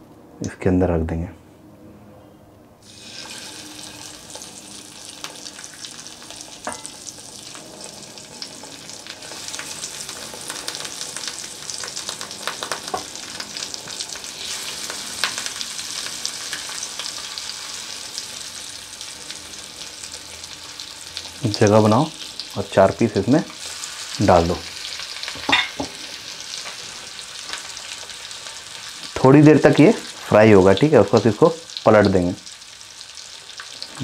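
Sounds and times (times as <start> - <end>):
fish sizzling in hot oil: 2.8 - 34.0.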